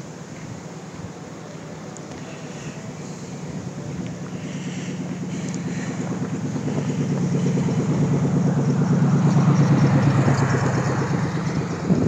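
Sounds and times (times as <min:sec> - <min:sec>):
engine running: 0:00.0 - 0:12.0
wind blowing: 0:02.2 - 0:12.0.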